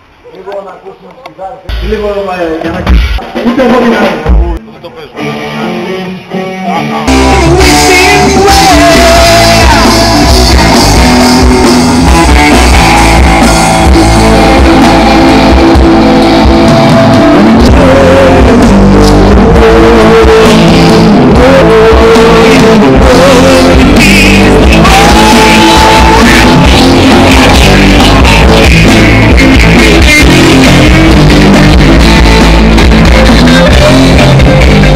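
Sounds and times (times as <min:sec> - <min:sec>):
rock band playing: 0:01.7 - 0:34.9
electric guitar: 0:02.6 - 0:34.9
person singing: 0:05.2 - 0:34.9.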